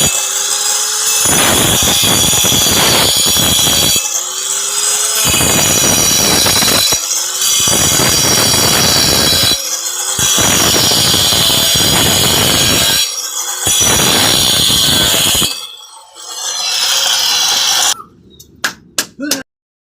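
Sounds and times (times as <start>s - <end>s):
electric marble cutter whining: 0.0s - 18.0s.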